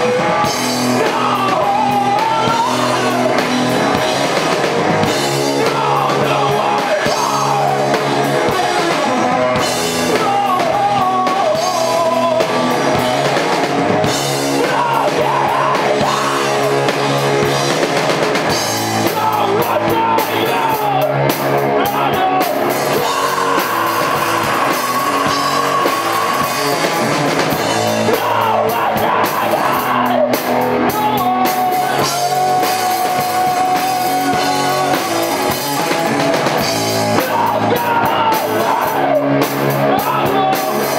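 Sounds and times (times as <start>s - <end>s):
person singing: 0.0s - 17.6s, 18.4s - 40.9s
live rock band playing: 0.0s - 40.9s.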